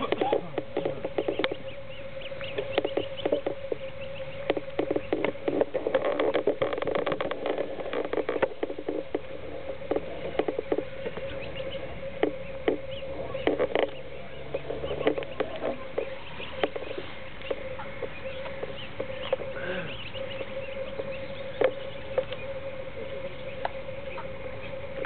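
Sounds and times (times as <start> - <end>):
goslings peeping: 0.0 - 25.0
steady hum: 0.0 - 25.0.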